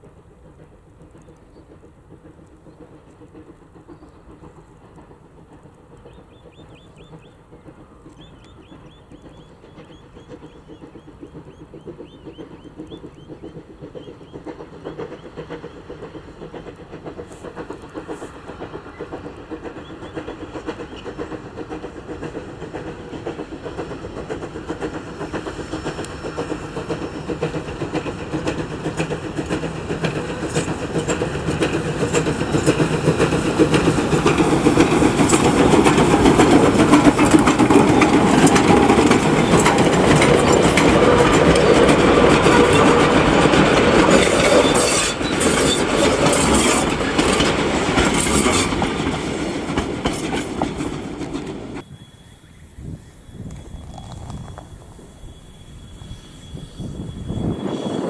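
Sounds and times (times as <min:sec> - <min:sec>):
steam locomotive exhaust beat: 0:00.0 - 0:58.0
train rumble: 0:00.0 - 0:58.0.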